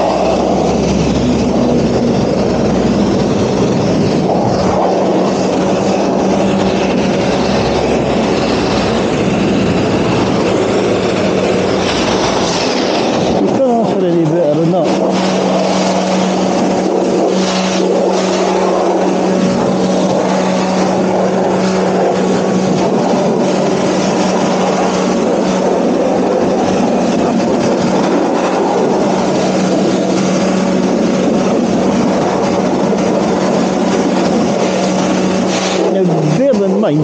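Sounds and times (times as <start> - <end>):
pressure washer spraying water: 0.0 - 37.0.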